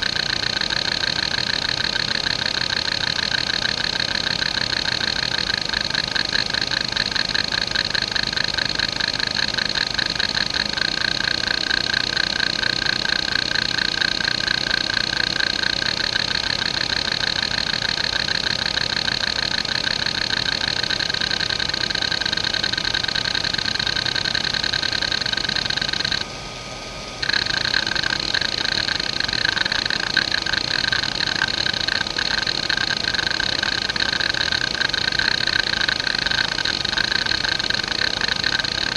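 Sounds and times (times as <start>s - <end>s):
hard drive seek chatter: 0.0s - 26.4s, 27.1s - 38.9s.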